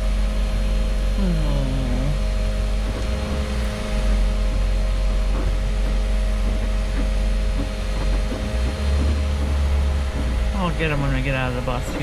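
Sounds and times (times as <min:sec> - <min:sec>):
bus engine rumbling: 0:00.0 - 0:12.0
constant hum: 0:00.0 - 0:12.0.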